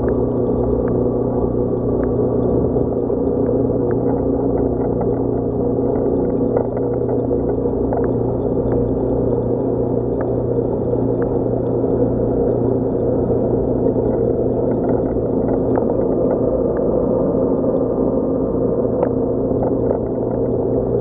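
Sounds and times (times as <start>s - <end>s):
aquarium pumps humming: 0.0s - 21.0s
circulating water: 0.0s - 21.0s.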